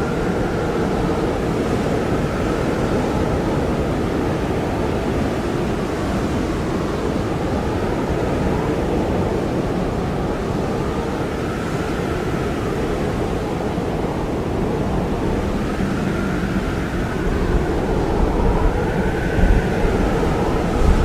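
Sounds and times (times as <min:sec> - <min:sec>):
blizzard wind blowing hard: 0:00.0 - 0:21.0.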